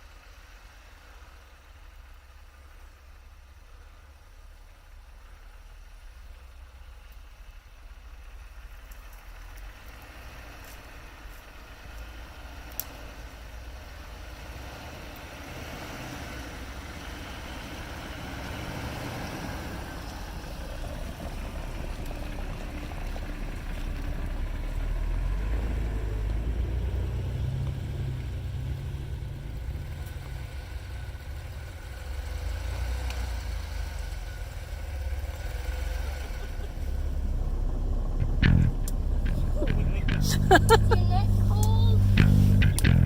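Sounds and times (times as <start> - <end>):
off-road vehicle engine rumbling: 0.0 - 43.0.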